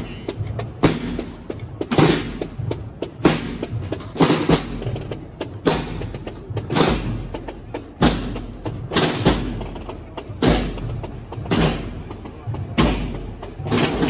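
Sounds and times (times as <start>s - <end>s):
drums beating a slow march: 0.0s - 14.0s.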